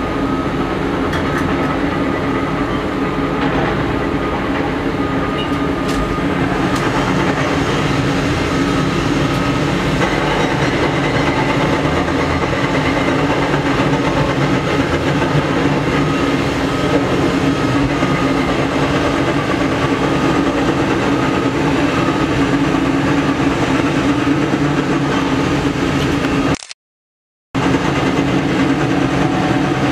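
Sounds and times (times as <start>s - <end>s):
excavator diesel engine running: 0.0s - 26.7s, 27.6s - 29.9s.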